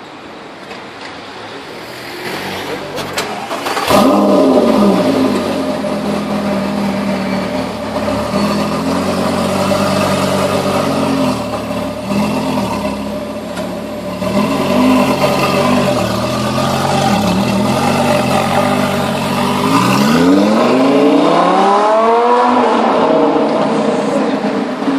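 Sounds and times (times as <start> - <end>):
sports car engine revving: 1.9 - 24.9.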